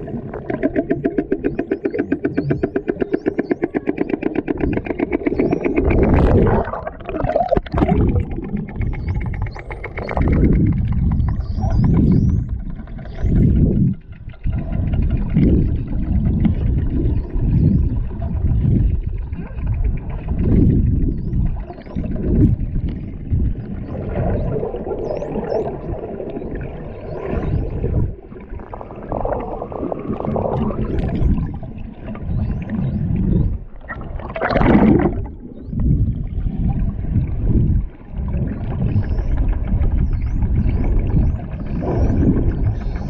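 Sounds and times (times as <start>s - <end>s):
underwater rushing and sloshing: 0.0s - 43.0s.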